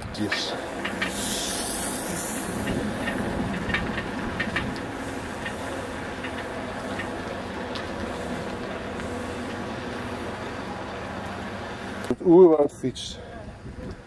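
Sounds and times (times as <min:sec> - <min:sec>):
bicycle tyres rumbling: 0:00.0 - 0:14.0
bicycle frame rattle: 0:00.1 - 0:12.1
sprinkler water spray hissing: 0:00.5 - 0:12.1.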